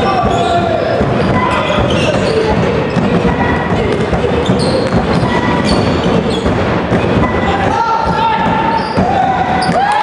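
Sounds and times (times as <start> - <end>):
shoe squeaks: 0.0 - 9.8
voices in a hall: 0.0 - 10.0.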